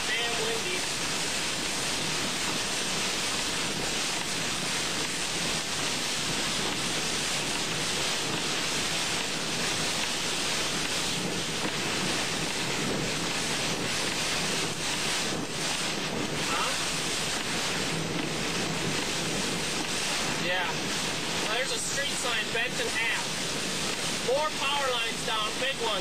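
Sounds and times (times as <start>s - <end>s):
heavy rain pounding on car: 0.0s - 26.0s.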